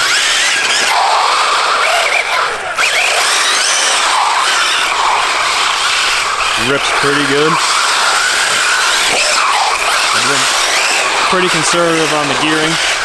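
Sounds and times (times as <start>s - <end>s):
electric motor whining: 0.0s - 13.0s
tyres scrubbing on asphalt: 0.0s - 13.0s.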